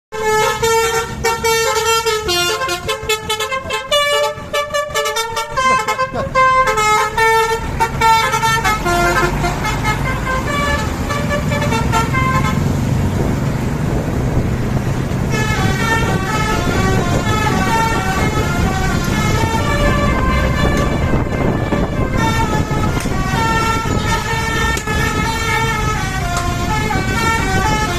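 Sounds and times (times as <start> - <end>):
bus musical horn playing notes: 0.1 - 12.9, 15.2 - 27.9
bus engine running: 0.2 - 27.9.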